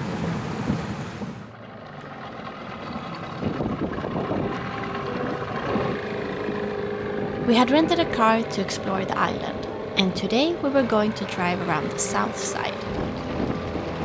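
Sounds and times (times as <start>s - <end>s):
road and wind noise: 0.0s - 14.0s
vehicle engine hum: 0.0s - 14.0s.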